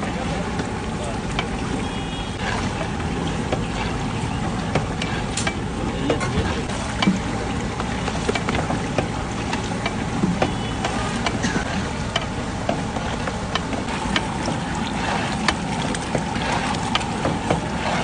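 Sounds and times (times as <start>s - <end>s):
pot of gravy boiling hard: 0.0s - 18.0s.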